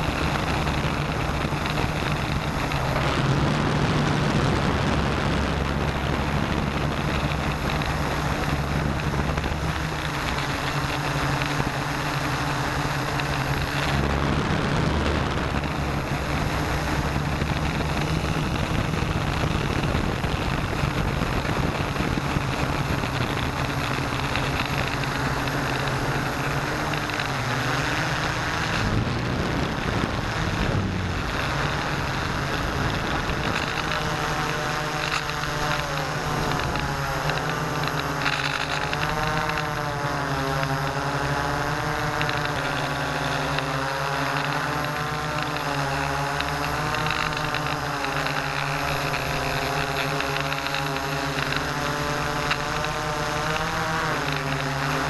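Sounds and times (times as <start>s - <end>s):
drone motors buzzing: 0.0s - 55.0s.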